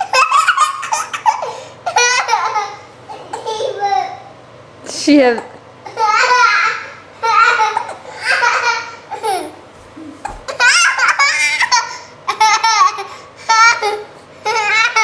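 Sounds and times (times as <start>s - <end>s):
young child laughing: 0.0s - 4.2s, 5.8s - 15.0s.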